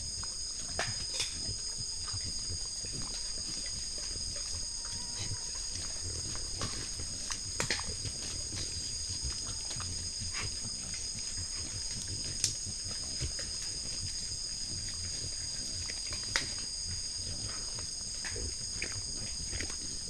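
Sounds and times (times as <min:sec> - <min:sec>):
animals chewing: 0:00.0 - 0:20.0
night insects trilling: 0:00.0 - 0:20.0.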